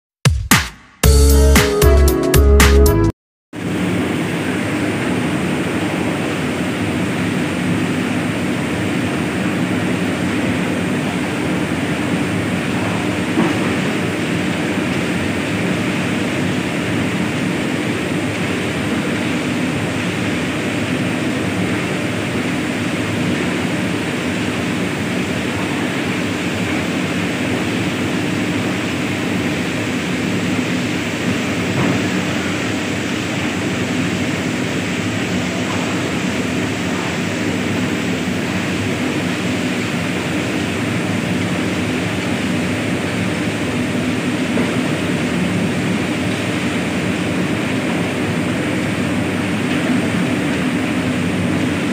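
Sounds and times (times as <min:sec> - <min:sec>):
furnace machine noise with low hum: 0:03.6 - 0:51.9.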